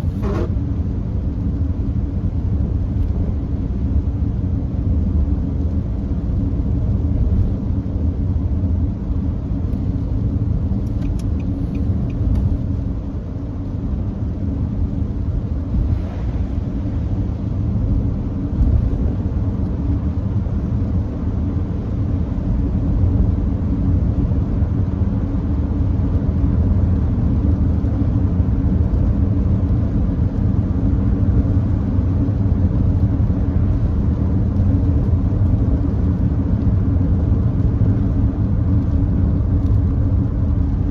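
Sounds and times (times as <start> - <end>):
tyre and road noise: 0.0 - 40.9.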